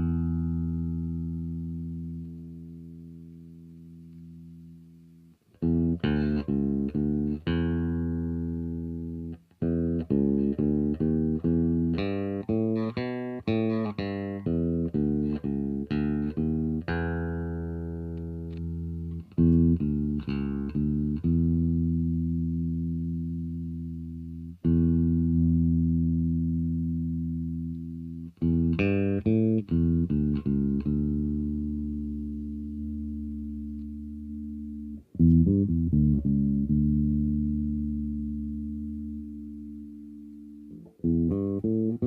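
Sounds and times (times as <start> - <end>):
bass guitar playing: 0.0 - 42.0.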